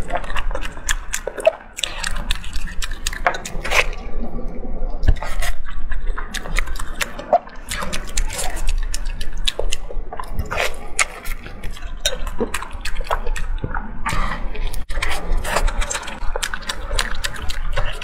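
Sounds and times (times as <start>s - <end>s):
wet chewing and lip smacking: 0.0s - 4.1s, 4.9s - 18.0s.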